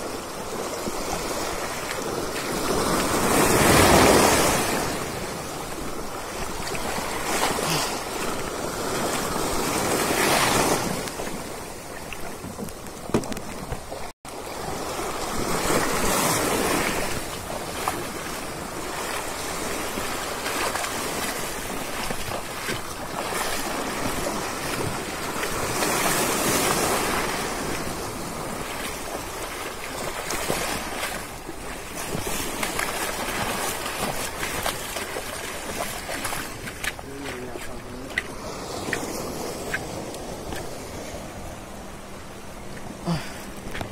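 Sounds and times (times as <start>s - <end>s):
small waves washing over concrete: 0.0s - 43.9s.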